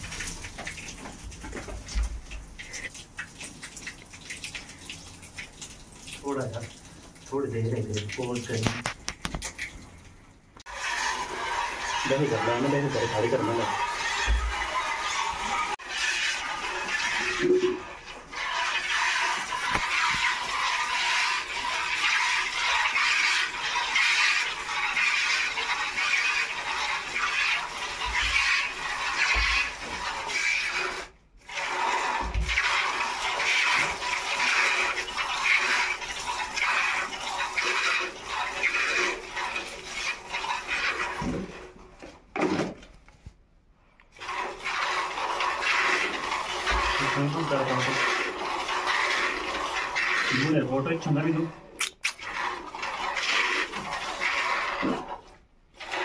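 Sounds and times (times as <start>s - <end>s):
milk squirting into plastic bucket: 0.0s - 10.0s, 10.6s - 43.3s, 44.0s - 56.0s.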